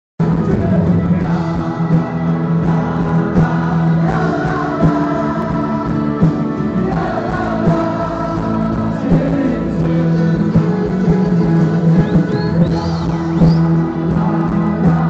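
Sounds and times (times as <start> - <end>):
group of voices singing: 0.2 - 15.0
loud live music over speakers: 0.2 - 15.0.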